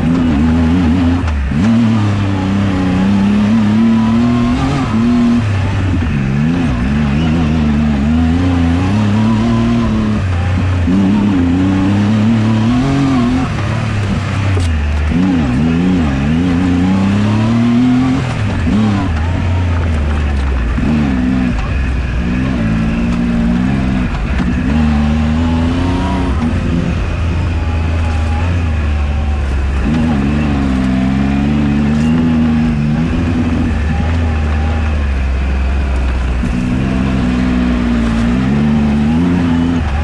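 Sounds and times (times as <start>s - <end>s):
engine revving: 0.0s - 40.0s.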